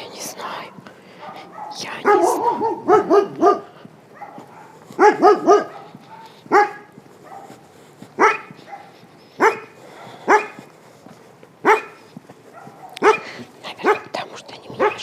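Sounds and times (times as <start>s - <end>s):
dog barking: 0.7s - 7.6s, 8.2s - 10.7s, 11.6s - 15.0s.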